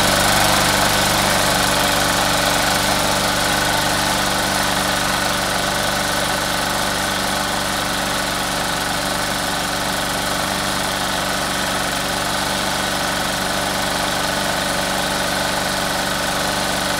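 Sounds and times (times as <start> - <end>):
lawn mower engine running: 0.0 - 16.9.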